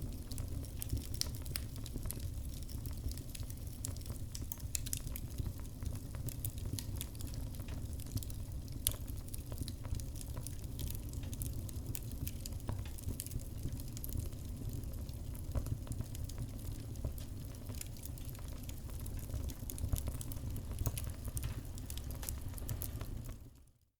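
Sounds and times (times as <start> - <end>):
low steady fire rumble: 0.0 - 23.8
wood fire crackling: 0.0 - 23.8.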